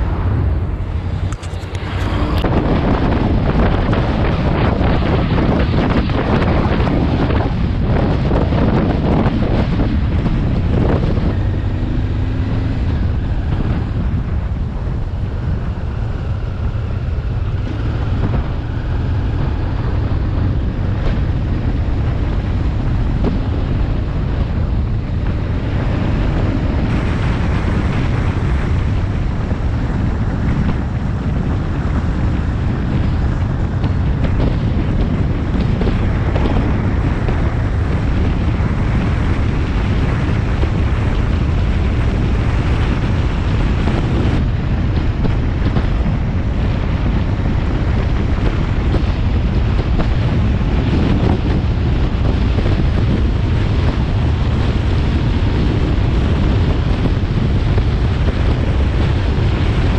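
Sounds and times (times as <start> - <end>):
motorcycle engine rumble: 0.0 - 59.9
wind buffeting microphone: 0.0 - 59.9.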